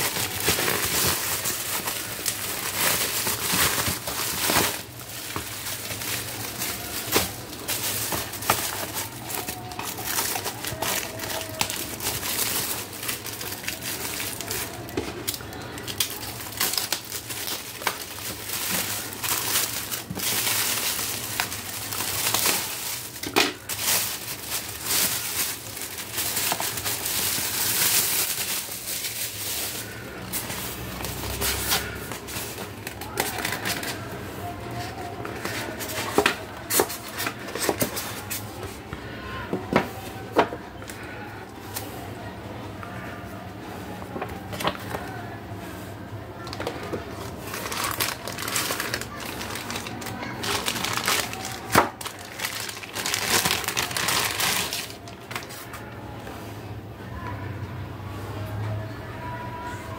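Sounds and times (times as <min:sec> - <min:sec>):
plastic wrapping crinkling: 0:00.0 - 0:42.3, 0:43.8 - 0:45.3, 0:46.4 - 0:56.0.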